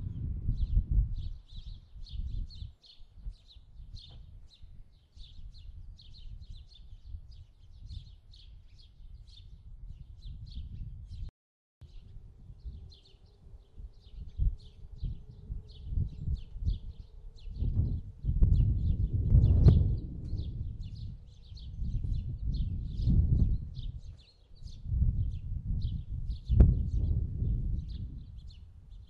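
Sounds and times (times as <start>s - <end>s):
small birds chirping: 0.1s - 29.0s.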